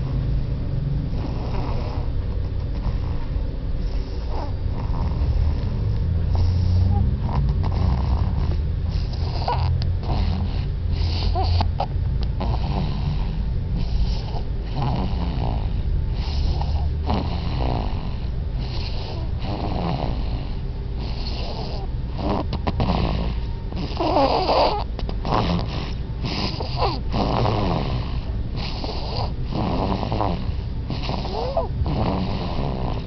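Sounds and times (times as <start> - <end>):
baby snoring: 1.1 - 33.0.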